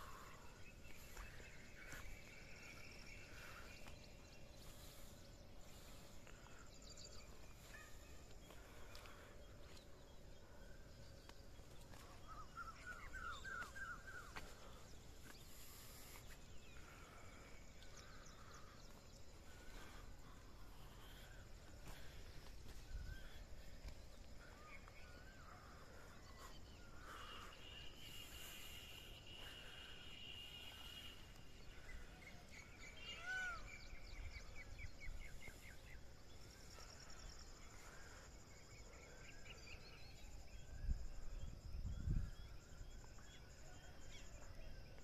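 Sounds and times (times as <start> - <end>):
faint bird calls: 0.0 - 45.0.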